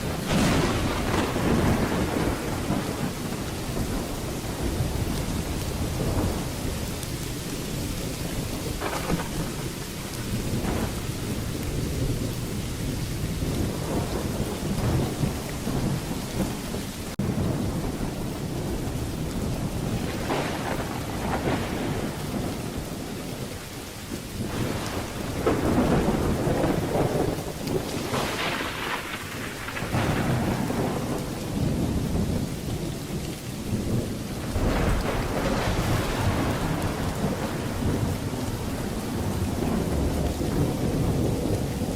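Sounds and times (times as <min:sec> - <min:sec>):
low rolling thunder: 0:00.0 - 0:41.9
rain hiss: 0:00.0 - 0:41.9.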